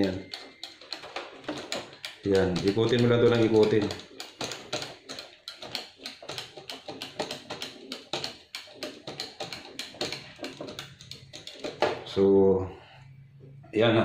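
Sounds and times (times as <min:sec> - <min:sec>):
plastic gears clicking: 0:00.0 - 0:12.1.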